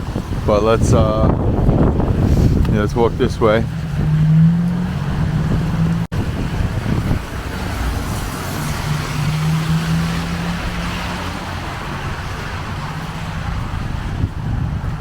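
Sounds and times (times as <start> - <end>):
engine low hum: 0.0 - 15.0
vehicles passing: 0.0 - 15.0.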